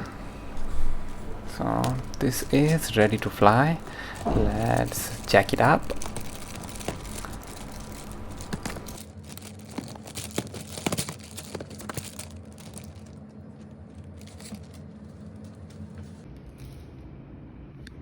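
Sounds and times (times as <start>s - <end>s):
plastic film wings crinkling: 0.0s - 15.9s.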